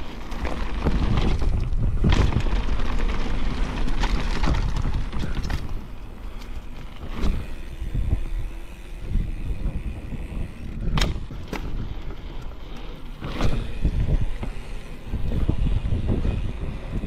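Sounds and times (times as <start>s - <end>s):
bike tyres on rough asphalt: 0.0s - 17.0s
wind rumble on microphone: 0.0s - 17.0s.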